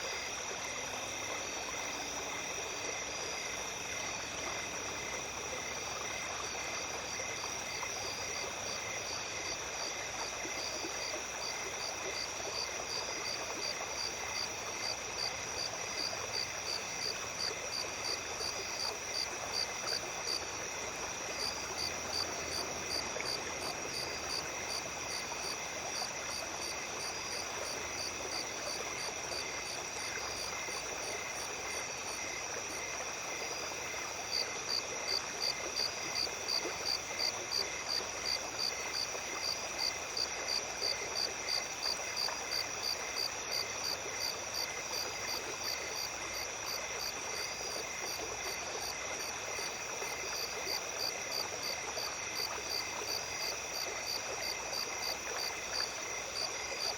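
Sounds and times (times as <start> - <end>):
stream running: 0.0 - 56.9.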